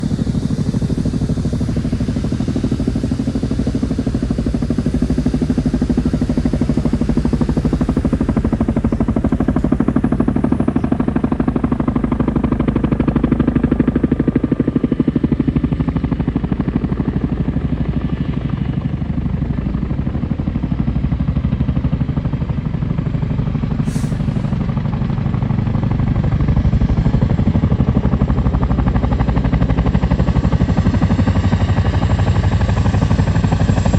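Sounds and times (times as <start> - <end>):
helicopter rotors chopping: 0.0 - 33.9.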